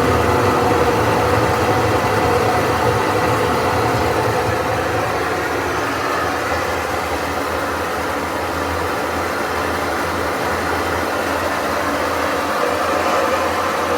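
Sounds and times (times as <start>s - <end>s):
washing machine droning: 0.0s - 13.9s.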